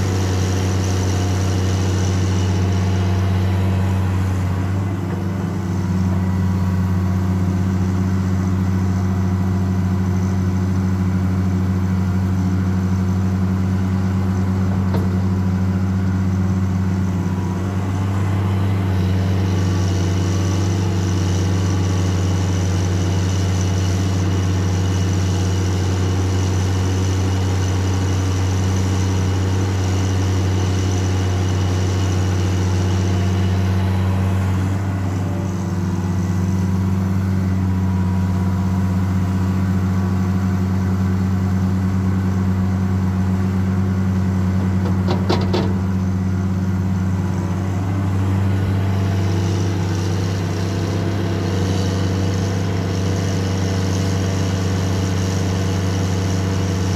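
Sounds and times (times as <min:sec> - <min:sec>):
excavator diesel engine running: 0:00.0 - 0:56.9
high engine whine: 0:00.0 - 0:56.9.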